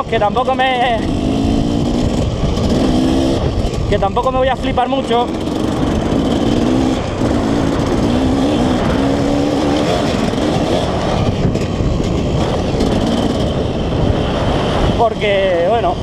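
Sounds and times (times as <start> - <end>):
motocross engine revving: 0.0 - 14.0
wind on microphone: 0.0 - 16.0.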